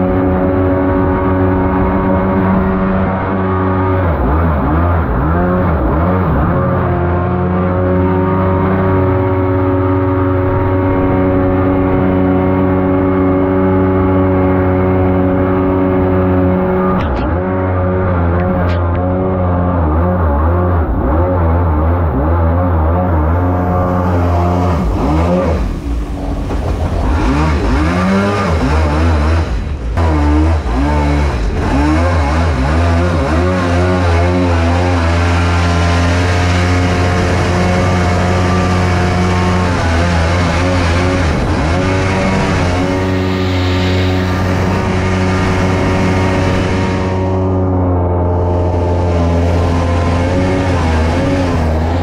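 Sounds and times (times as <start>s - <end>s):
jet boat engine revving: 0.0s - 52.0s.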